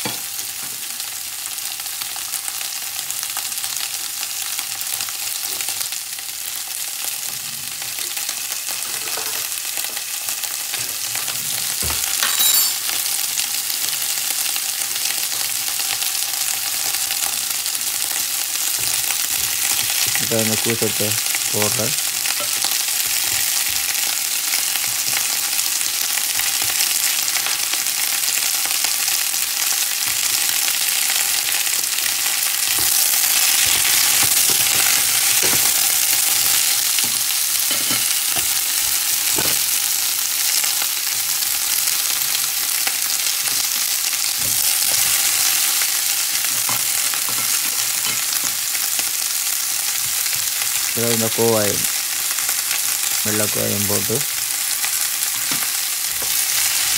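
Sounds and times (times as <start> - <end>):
vegetables sizzling in a frying pan: 0.0 - 56.9.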